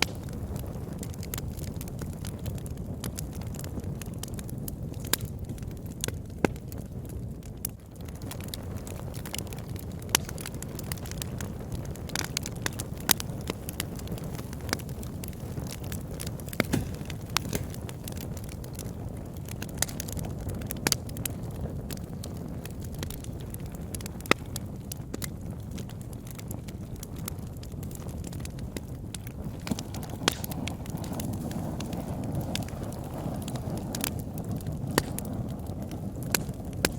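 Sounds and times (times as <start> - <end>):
fire snapping and popping: 0.0 - 36.9
wood fire crackling: 0.0 - 36.9.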